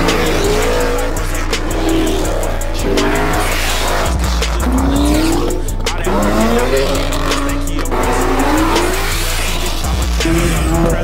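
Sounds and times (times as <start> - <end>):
car engines revving hard: 0.0 - 11.0
hip-hop music with heavy bass: 0.0 - 11.0.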